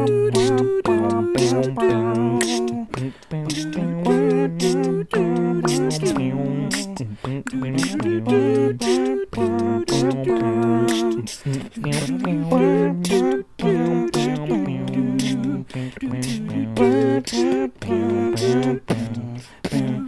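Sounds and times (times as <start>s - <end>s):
beatboxed percussion: 0.0s - 20.0s
voices singing chords: 0.0s - 20.0s.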